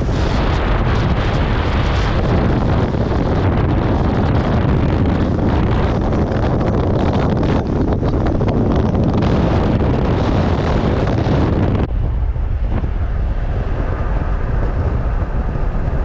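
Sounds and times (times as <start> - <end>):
vehicle rumble on road: 0.0 - 16.0
wind buffeting microphone: 0.0 - 16.0.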